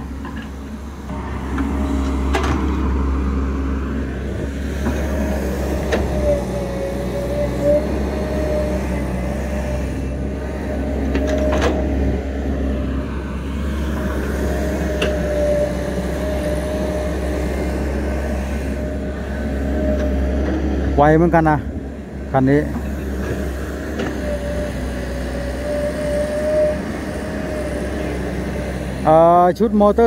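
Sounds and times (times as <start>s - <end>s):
diesel engine under load: 0.0s - 30.0s
hydraulic whine: 0.0s - 30.0s.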